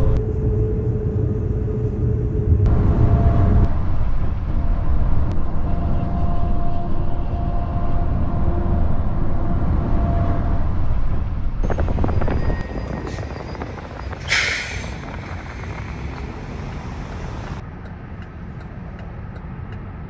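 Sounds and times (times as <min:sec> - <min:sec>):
highway road noise: 0:00.0 - 0:20.0.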